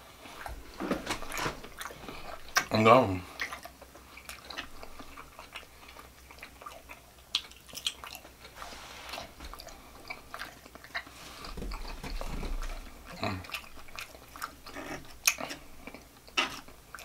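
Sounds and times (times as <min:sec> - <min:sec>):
person chewing with mouth smacks: 0:00.2 - 0:17.0.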